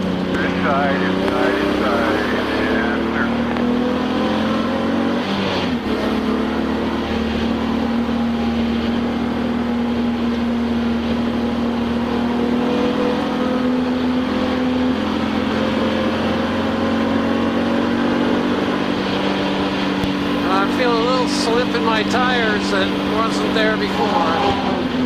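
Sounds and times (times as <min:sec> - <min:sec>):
race car engine under load: 0:00.0 - 0:25.0.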